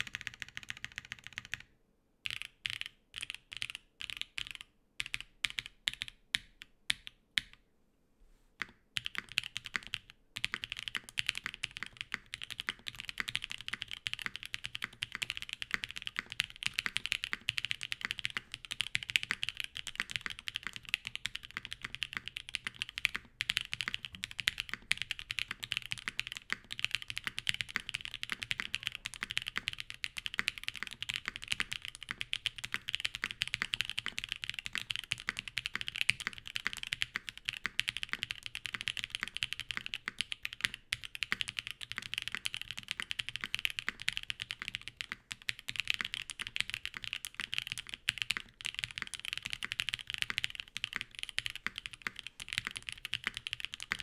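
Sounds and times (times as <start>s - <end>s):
mechanical keyboard typing: 0.0s - 7.5s, 8.6s - 54.0s.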